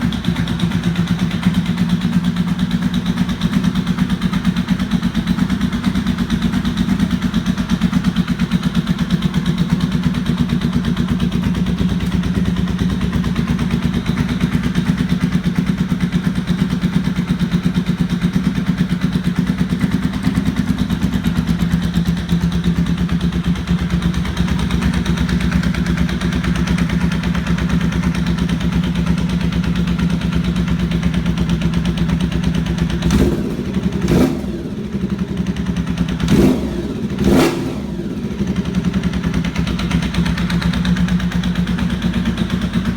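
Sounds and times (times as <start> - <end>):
loud rhythmic engine knocking: 0.0 - 42.9
motorcycle engine idling: 0.0 - 42.9.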